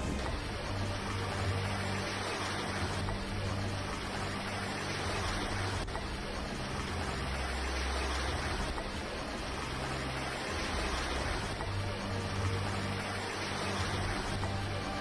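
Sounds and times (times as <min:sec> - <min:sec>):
runoff water: 0:00.0 - 0:15.0.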